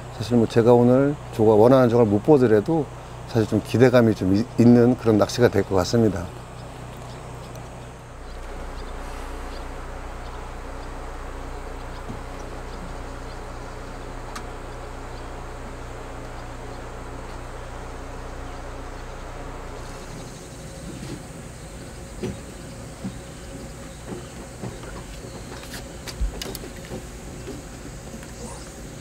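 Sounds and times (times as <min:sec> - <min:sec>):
low motor-like hum: 0:00.0 - 0:29.0.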